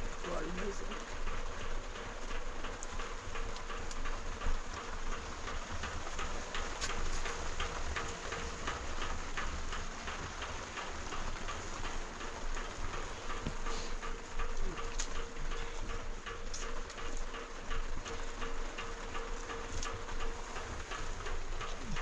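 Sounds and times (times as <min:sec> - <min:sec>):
raindrops ticking sharply: 0:00.0 - 0:22.0
steady rain falling: 0:00.0 - 0:22.0.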